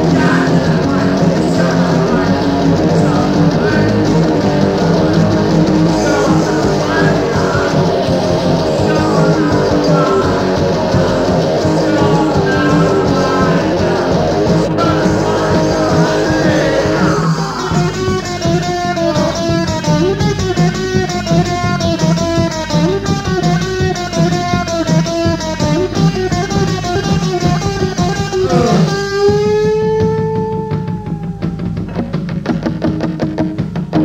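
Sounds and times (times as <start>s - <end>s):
instrumental rock music: 0.0s - 34.0s
picked guitar figure: 0.0s - 34.0s.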